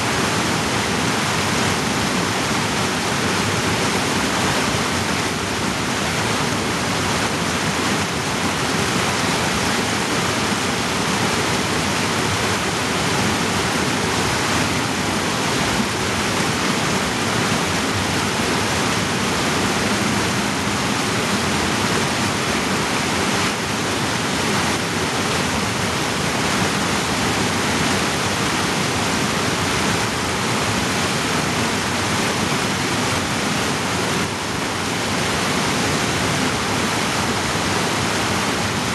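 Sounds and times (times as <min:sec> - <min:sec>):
creek rushing over boulders: 0:00.0 - 0:38.9.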